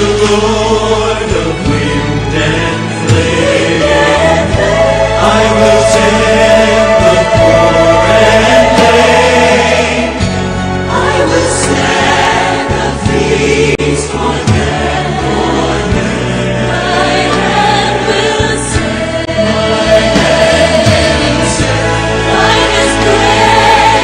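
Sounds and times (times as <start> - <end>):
choir singing: 0.0 - 24.0
instrumental accompaniment: 0.0 - 24.0.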